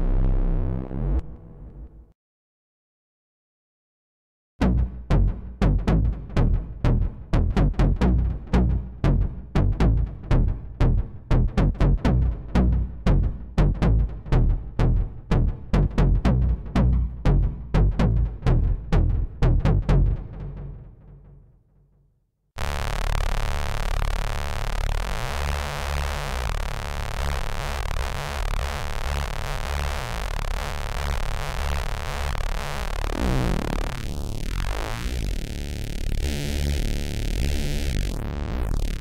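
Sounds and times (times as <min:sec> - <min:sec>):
synthesizer bass notes: 0:00.0 - 0:02.0, 0:04.6 - 0:20.8, 0:22.6 - 0:39.0.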